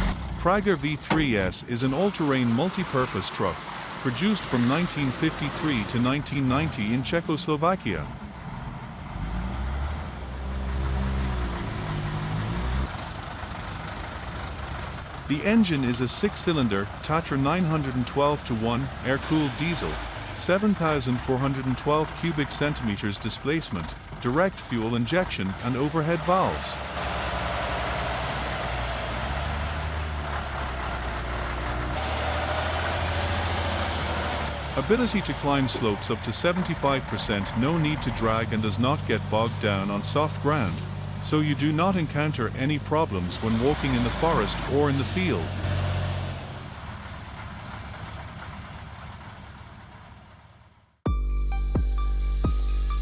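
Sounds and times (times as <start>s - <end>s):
truck diesel engine running: 0.0s - 51.0s.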